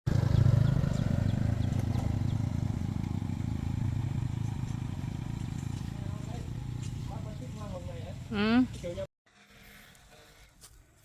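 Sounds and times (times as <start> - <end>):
small engine running: 0.1 - 9.0.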